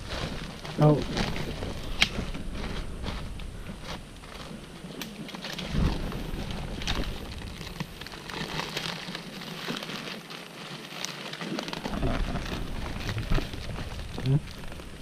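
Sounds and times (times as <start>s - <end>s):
dry leaves rustling: 0.0s - 15.0s
plastic sack crinkling: 0.0s - 15.0s.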